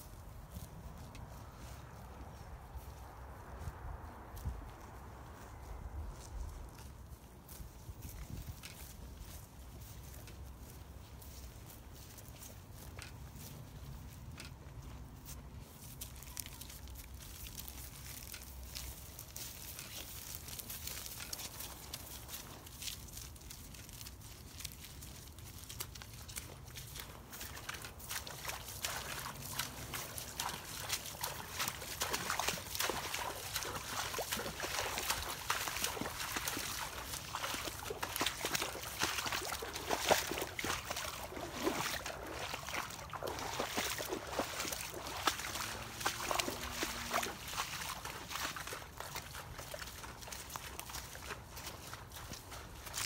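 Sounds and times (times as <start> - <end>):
footsteps splashing through water: 0.0 - 53.0.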